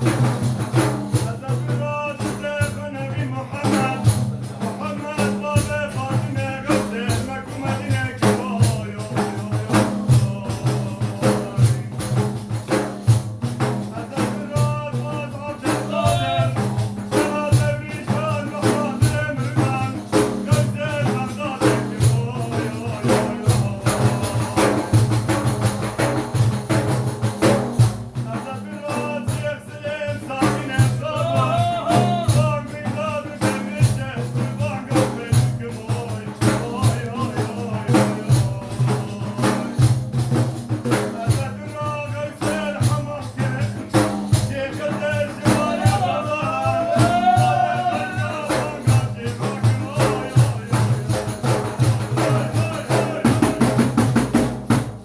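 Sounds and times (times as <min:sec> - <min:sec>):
man singing devotional song: 0:00.0 - 0:54.8
hand percussion beat: 0:00.0 - 0:55.0.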